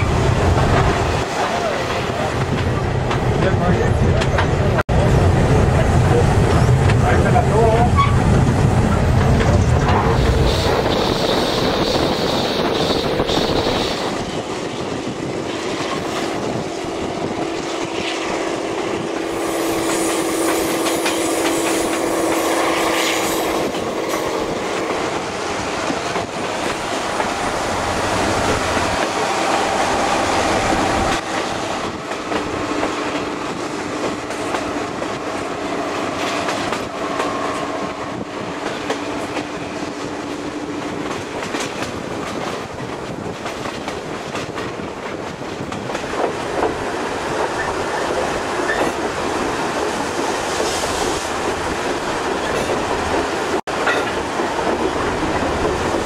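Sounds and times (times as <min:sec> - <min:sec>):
train wheels clacking on rails: 0:06.1 - 0:56.0.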